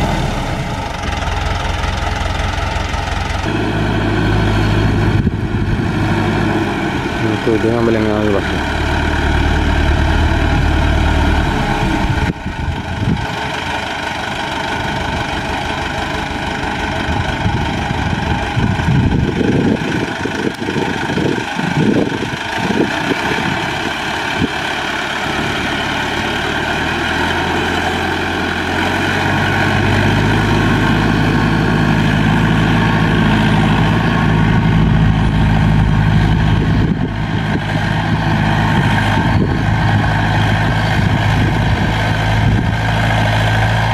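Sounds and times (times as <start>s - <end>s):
tractor diesel engine running: 0.0s - 43.9s
uneven low rumbling: 0.0s - 43.9s.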